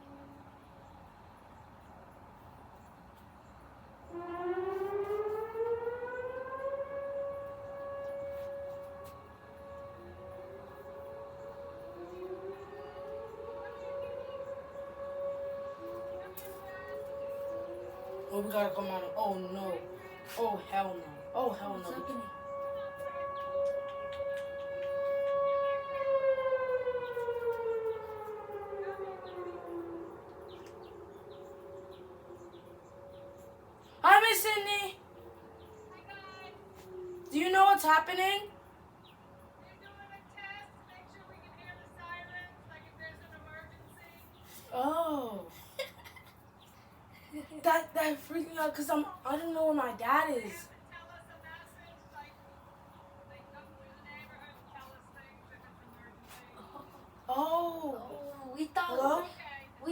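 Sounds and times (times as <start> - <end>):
warning siren wailing: 0.0 - 1.4, 3.6 - 59.9.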